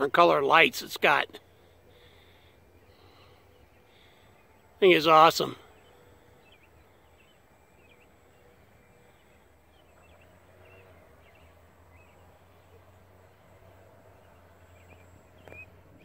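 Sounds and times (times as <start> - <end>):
low steady hum: 0.0 - 16.0
small birds chirping: 0.0 - 16.0.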